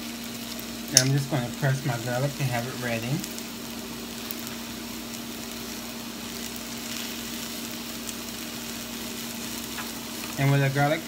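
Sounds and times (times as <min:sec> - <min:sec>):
steady hum: 0:00.0 - 0:11.0
vegetables sizzling in hot oil: 0:00.0 - 0:11.0.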